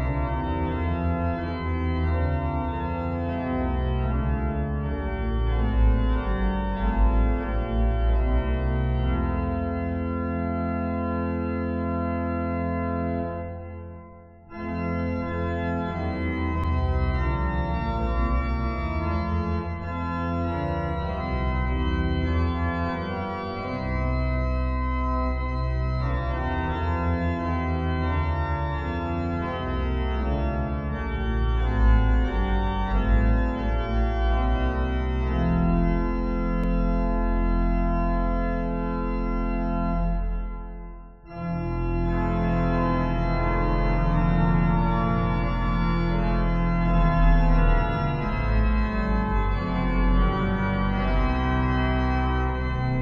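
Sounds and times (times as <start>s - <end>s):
organ playing a hymn: 0.0s - 53.0s.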